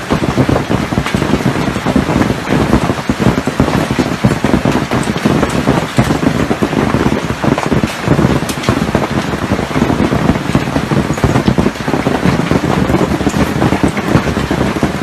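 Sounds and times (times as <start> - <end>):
heavy rain and wind: 0.0 - 15.0
raindrops tapping a surface: 0.0 - 15.0
wind buffeting microphone: 0.0 - 15.0.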